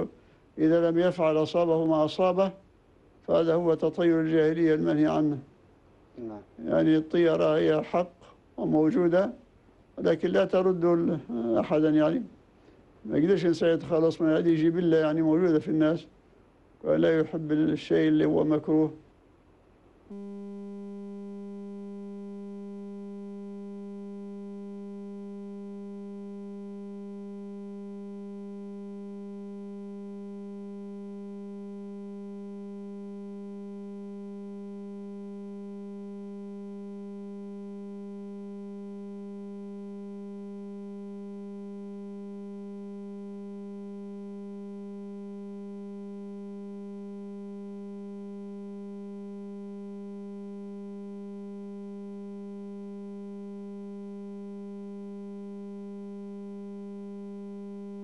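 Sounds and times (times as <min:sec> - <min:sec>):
low electronic buzzing tone: 0:00.0 - 0:58.0.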